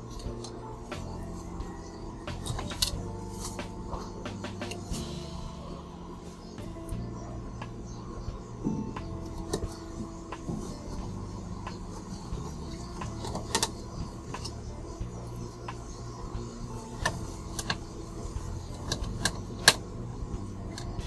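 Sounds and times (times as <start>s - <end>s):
small hard parts clicking: 0.0s - 5.1s, 8.6s - 21.0s
low steady hum: 0.0s - 21.0s.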